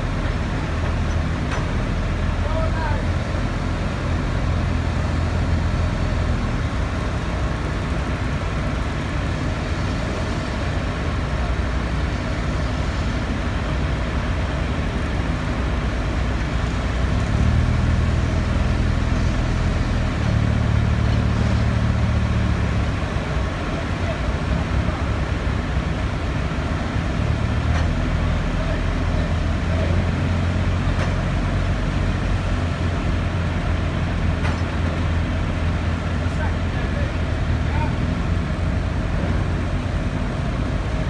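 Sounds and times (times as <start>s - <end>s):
lorry diesel engine drone: 0.0s - 41.0s.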